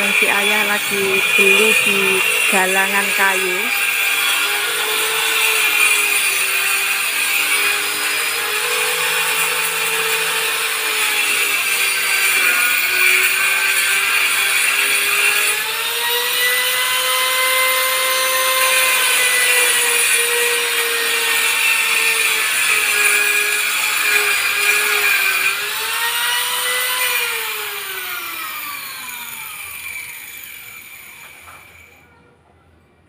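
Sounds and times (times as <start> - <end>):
electric hand planer whining: 0.0 - 31.9.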